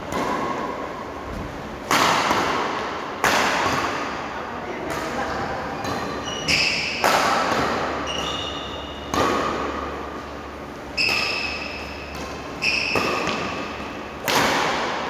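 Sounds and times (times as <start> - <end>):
rackets hitting shuttlecock: 0.0 - 1.0, 1.8 - 15.0.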